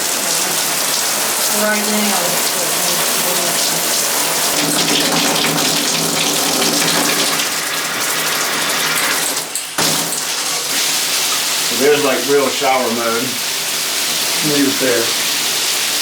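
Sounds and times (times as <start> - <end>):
shower water spraying: 0.0 - 16.0.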